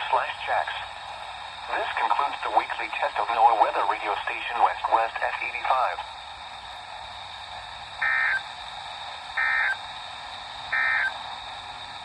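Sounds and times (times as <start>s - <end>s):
radio hiss: 0.0s - 6.7s, 7.4s - 10.0s, 10.6s - 11.4s.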